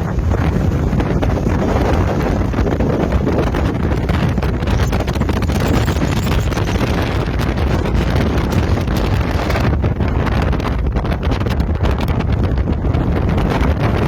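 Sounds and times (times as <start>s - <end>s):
gusting wind buffeting microphone: 0.0s - 14.0s.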